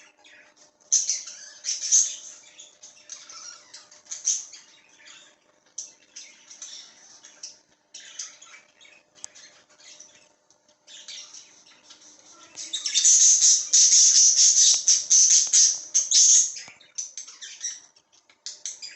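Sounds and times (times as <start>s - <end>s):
budgerigar chicks chirping and squawking: 0.0s - 18.9s.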